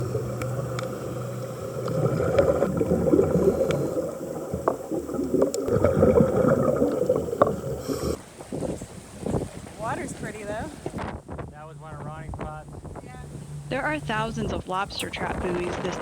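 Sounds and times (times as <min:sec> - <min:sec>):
water churning around boat: 0:00.0 - 0:16.0.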